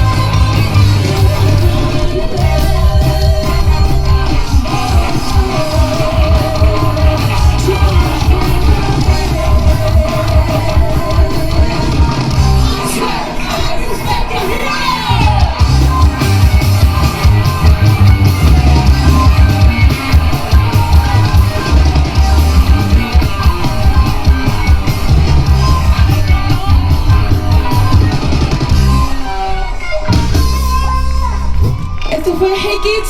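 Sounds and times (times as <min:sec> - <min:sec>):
live rock band playing: 0:00.0 - 0:33.0
person singing: 0:00.0 - 0:33.0.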